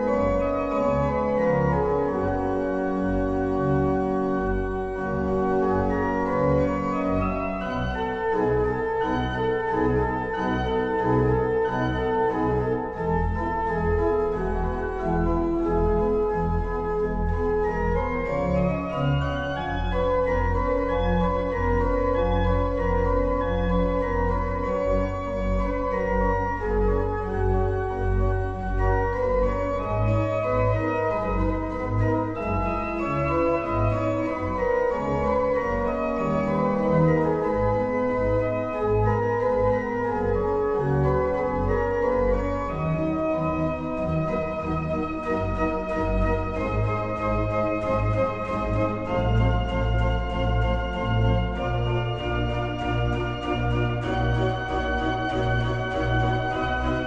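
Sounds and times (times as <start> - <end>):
pipe organ playing: 0.0 - 57.0.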